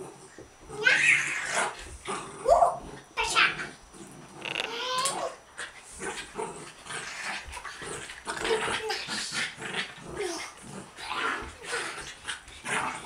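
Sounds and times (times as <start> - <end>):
small dog growling and yipping: 0.6 - 13.0.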